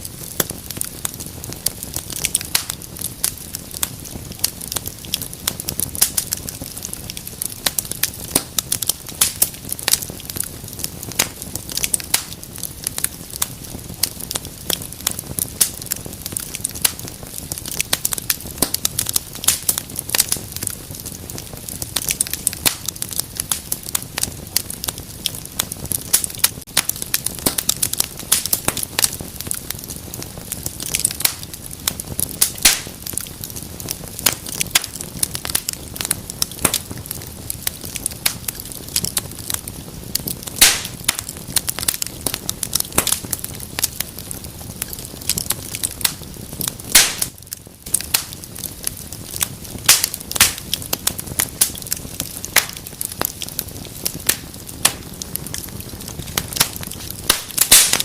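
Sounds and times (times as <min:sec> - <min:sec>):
low hiss of flames: 0:00.0 - 0:58.0
wood fire crackling and popping: 0:00.0 - 0:58.0.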